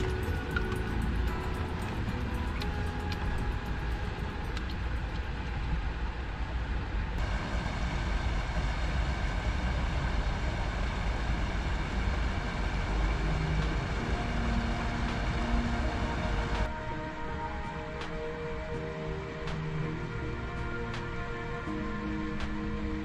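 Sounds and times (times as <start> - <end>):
low rumble with hiss: 0.0 - 23.0.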